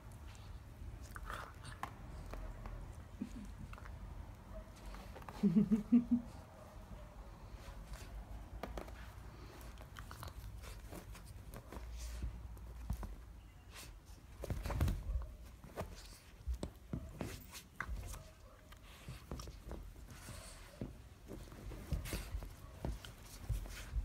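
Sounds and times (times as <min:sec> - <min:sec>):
animals play-fighting on sofa: 0:00.0 - 0:24.0.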